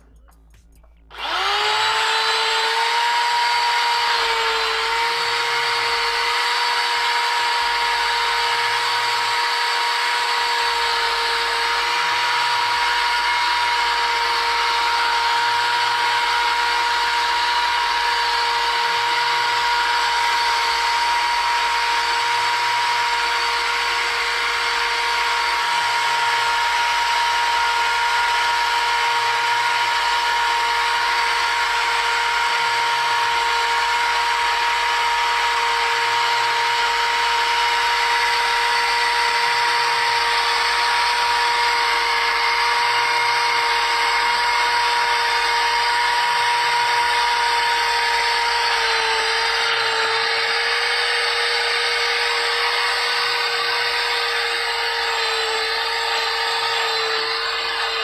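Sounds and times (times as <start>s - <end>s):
vacuum cleaner whining: 1.1s - 58.0s.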